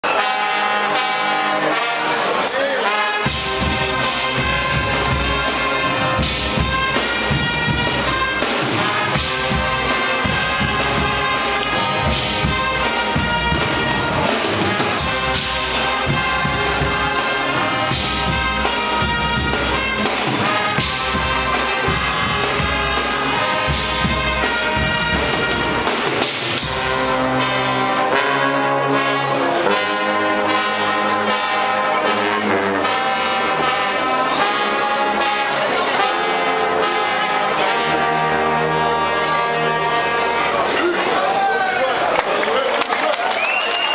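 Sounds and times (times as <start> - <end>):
brass band playing loudly: 0.0 - 43.9.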